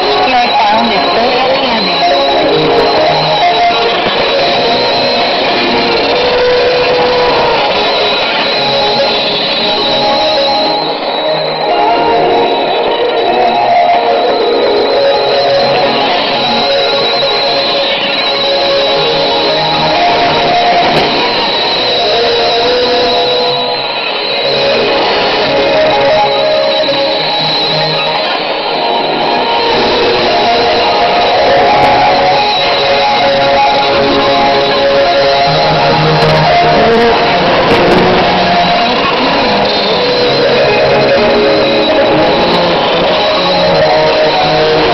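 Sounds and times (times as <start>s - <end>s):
guitar music through radio speaker: 0.0s - 44.9s.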